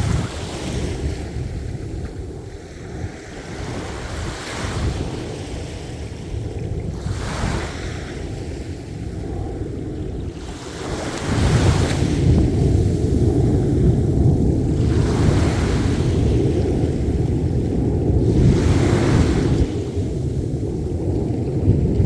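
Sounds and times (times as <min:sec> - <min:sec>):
ocean waves breaking: 0:00.0 - 0:22.0.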